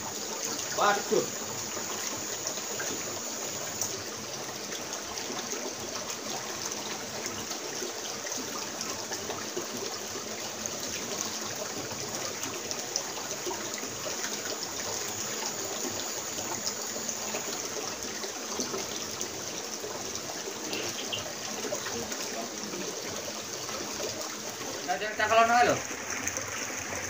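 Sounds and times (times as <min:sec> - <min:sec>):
river water trickling over rocks: 0:00.0 - 0:27.0.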